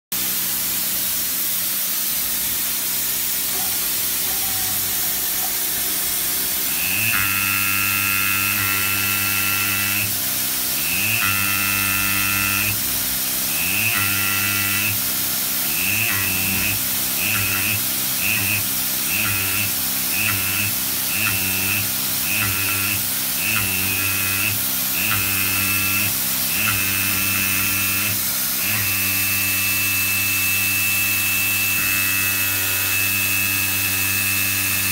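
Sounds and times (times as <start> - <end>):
marking stylus buzzing on metal: 3.5 - 34.9.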